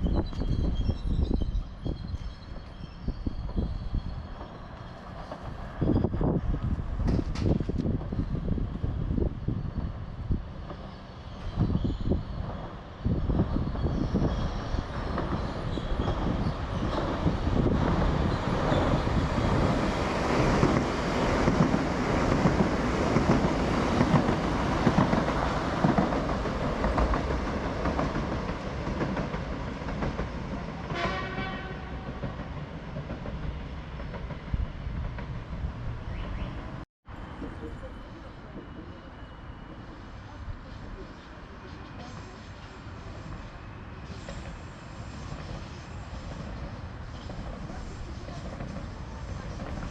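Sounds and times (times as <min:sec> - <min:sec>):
train passing: 0:00.0 - 0:49.9.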